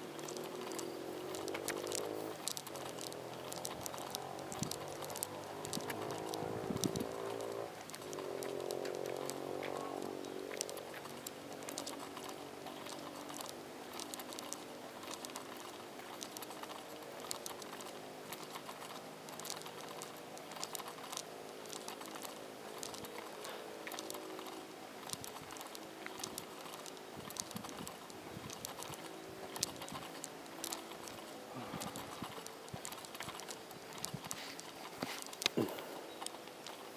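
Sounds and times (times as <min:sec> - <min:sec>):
light clicks and taps: 0:00.2 - 0:36.9.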